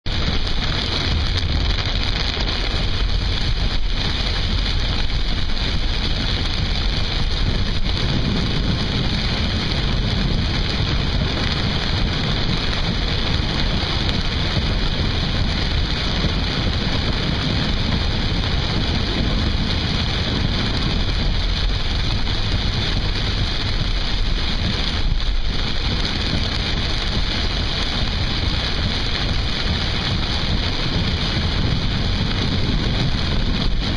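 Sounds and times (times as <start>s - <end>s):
rain and water spray rushing: 0.1s - 33.9s.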